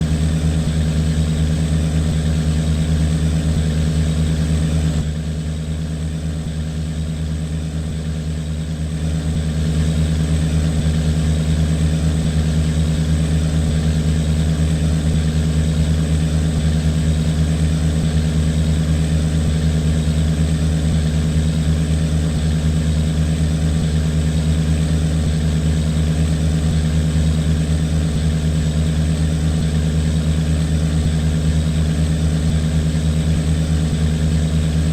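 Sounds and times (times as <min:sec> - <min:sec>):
boat engine running: 0:00.0 - 0:34.9.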